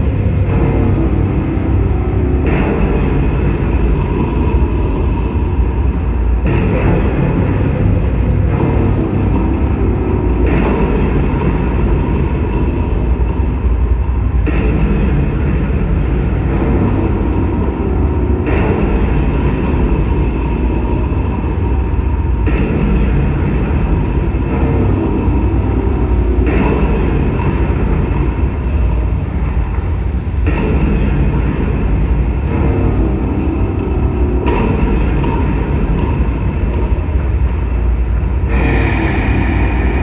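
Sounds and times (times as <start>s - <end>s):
deep electronic drone: 0.0s - 40.0s.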